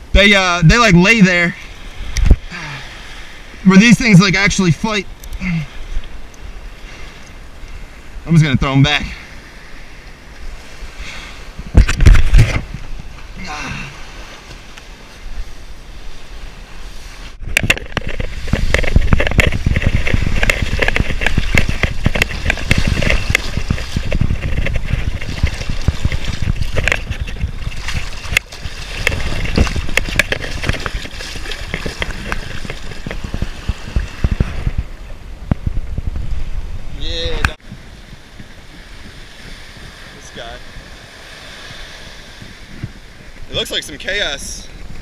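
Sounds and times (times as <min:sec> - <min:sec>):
surf water sloshing and splashing: 0:00.0 - 0:45.0.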